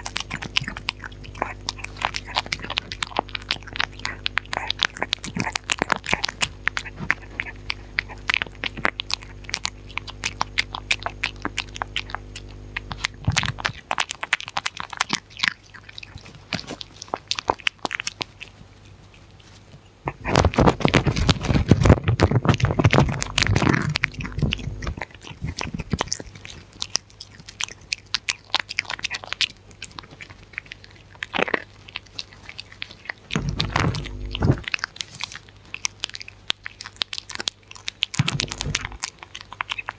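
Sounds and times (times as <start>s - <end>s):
dog chewing food: 0.0s - 39.9s
low steady hum: 0.0s - 39.9s.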